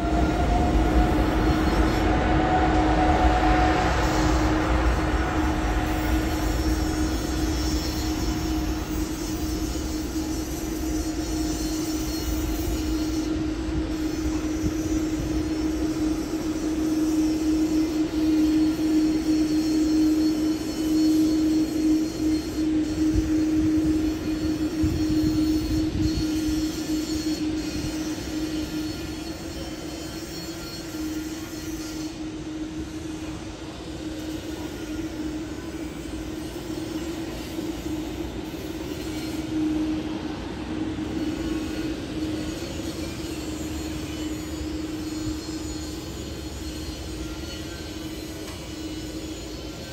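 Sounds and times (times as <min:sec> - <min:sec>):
jet engines at takeoff thrust: 0:00.0 - 0:49.9.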